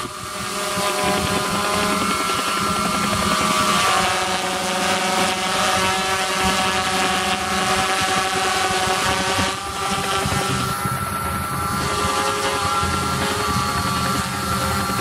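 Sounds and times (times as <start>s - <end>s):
quadcopter buzzing: 0.0s - 15.0s.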